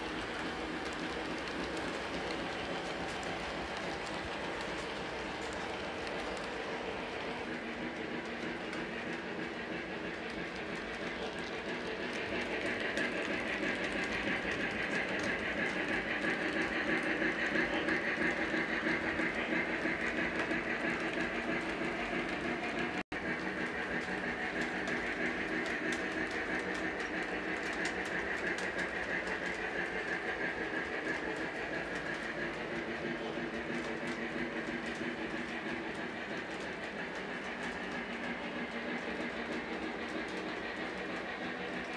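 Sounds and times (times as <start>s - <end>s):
model train clattering on track: 0.0s - 41.9s.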